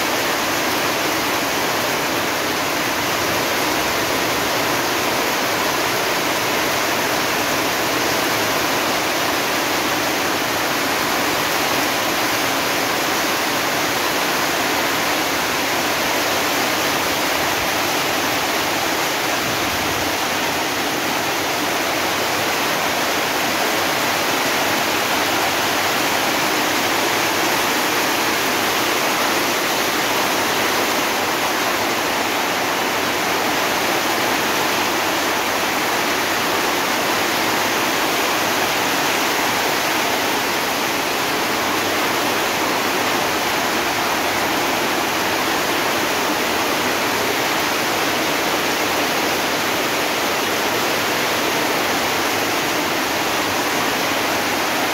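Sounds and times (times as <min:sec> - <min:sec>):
torrential rain on paving: 0:00.0 - 0:54.9.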